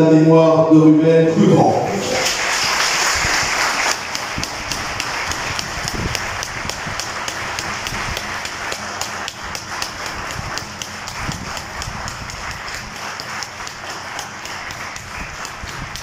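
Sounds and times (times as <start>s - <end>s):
crowd applauding: 1.4s - 16.0s
close sharp hand claps: 1.9s - 16.0s.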